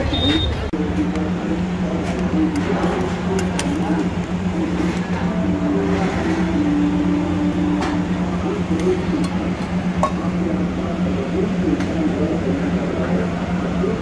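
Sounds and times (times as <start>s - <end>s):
faint background voices: 0.0s - 14.0s
steady low hum: 0.6s - 14.0s.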